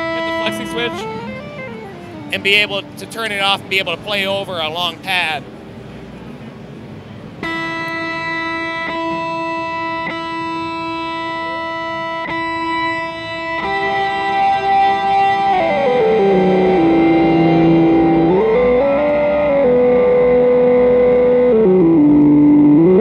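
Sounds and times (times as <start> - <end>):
light picked guitar notes: 0.0 - 23.0
reverb guitar pad: 0.0 - 23.0.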